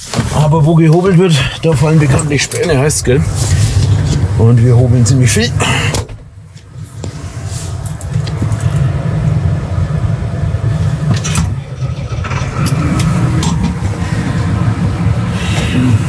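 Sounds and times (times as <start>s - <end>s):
diesel tractor engine rumbling: 0.0s - 16.0s.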